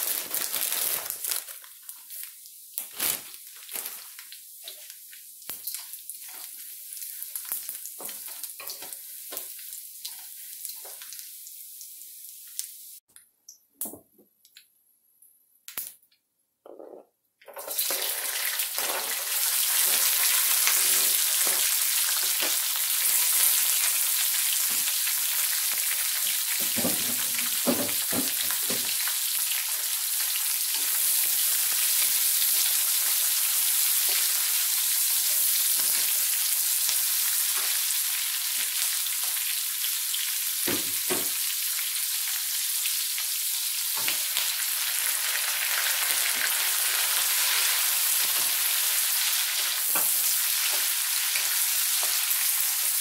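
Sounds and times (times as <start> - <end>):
food sizzling in hot oil: 0.0 - 13.0, 17.6 - 53.0.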